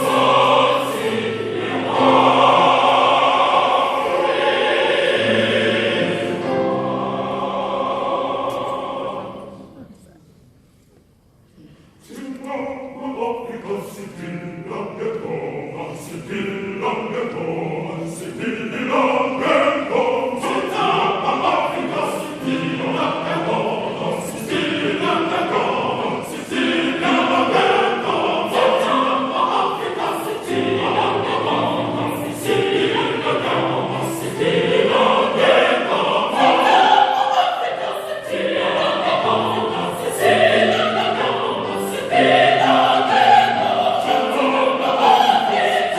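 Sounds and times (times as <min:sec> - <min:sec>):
choir singing in harmony: 0:00.0 - 0:09.9, 0:12.0 - 0:45.9.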